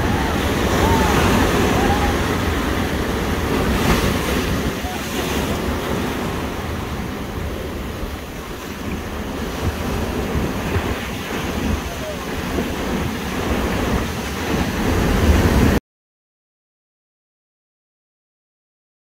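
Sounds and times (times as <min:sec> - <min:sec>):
surf washing over rocks and sand: 0:00.0 - 0:15.8.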